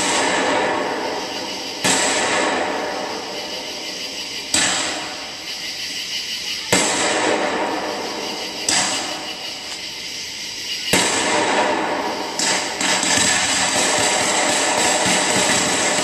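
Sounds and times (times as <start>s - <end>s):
fireworks bursting with booms: 0.0s - 16.0s
steady hiss: 0.0s - 16.0s.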